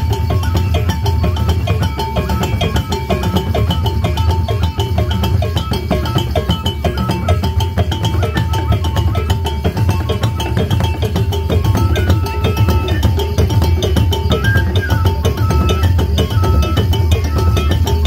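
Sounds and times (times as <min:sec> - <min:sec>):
fast dance drumming: 0:00.0 - 0:18.0.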